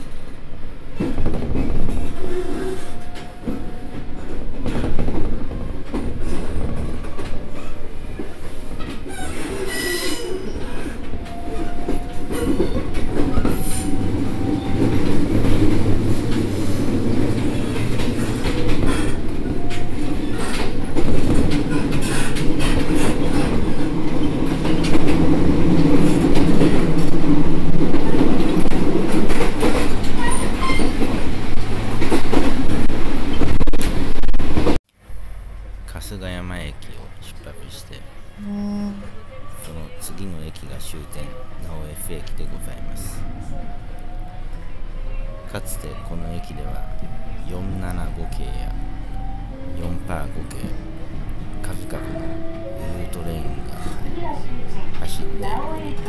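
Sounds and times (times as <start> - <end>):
train wheels rumbling: 0.0 - 38.4, 39.4 - 56.0.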